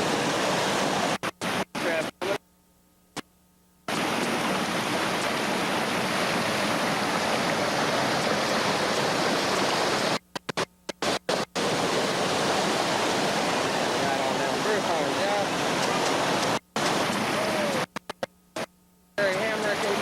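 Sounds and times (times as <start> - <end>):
whitewater river rapid: 0.0 - 2.3, 3.9 - 10.2, 11.0 - 17.9, 19.2 - 20.0.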